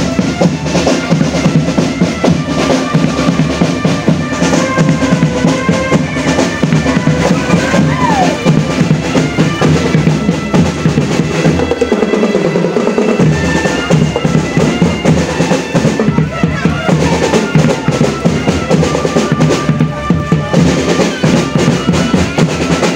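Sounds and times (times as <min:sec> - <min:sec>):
snare and bass drums: 0:00.0 - 0:22.9.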